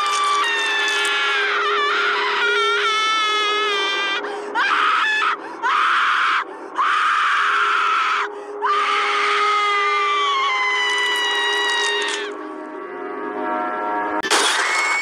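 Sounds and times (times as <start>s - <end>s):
animatronic high-pitched shrieks: 0.0s - 12.4s, 14.5s - 15.0s.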